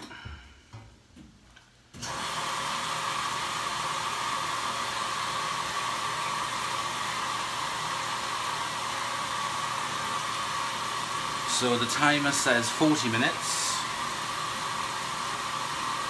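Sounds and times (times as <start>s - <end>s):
water rushing into washing machine: 2.0s - 16.0s.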